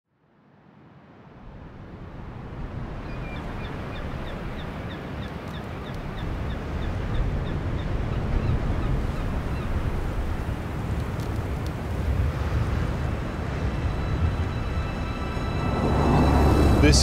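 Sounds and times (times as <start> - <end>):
ocean surf rumbling: 0.8 - 17.0.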